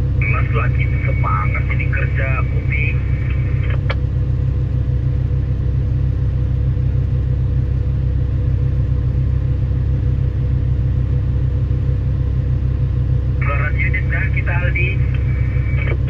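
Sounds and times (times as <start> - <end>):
diesel engine low drone: 0.0 - 16.0.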